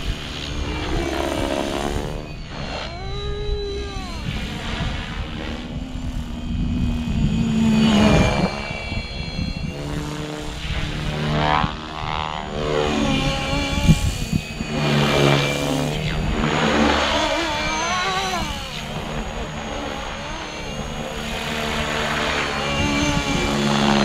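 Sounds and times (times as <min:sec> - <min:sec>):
rc helicopter motor whine: 0:00.0 - 0:24.0.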